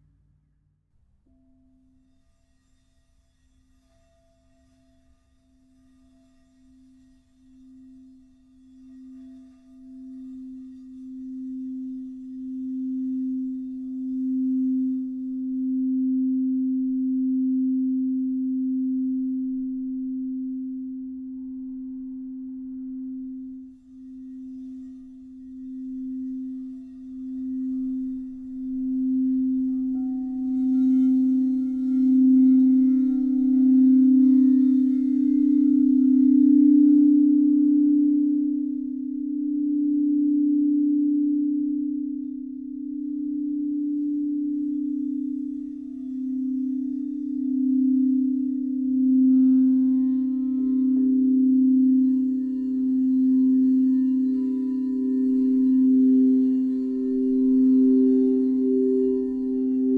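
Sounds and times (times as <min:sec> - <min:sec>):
low singing bowl steady tone: 0:01.2 - 0:59.9
higher singing bowl tones: 0:06.1 - 0:59.9.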